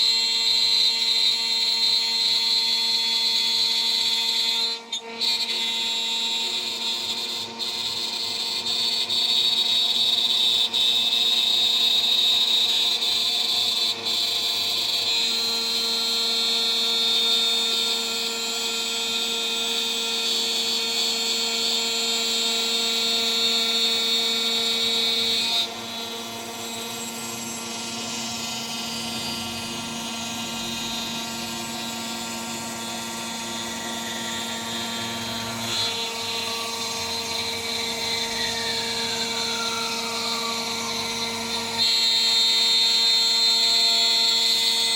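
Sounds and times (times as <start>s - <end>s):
cnc spindle high whine: 0.0s - 44.9s
end mill grinding cut: 0.0s - 44.9s.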